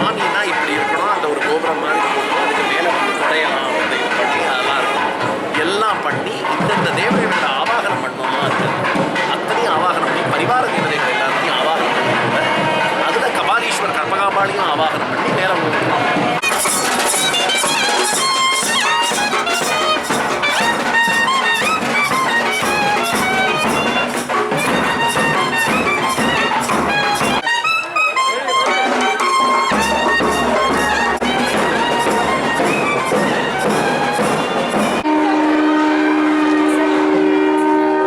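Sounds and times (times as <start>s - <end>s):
thavil drum strokes: 0.0s - 35.1s
nadaswaram gliding melody: 0.0s - 38.0s.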